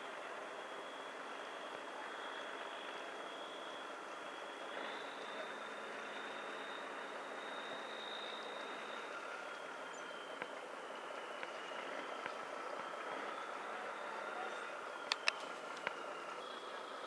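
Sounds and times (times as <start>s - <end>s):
boat engine drone: 0.0s - 17.0s
thin high whine: 0.0s - 17.0s.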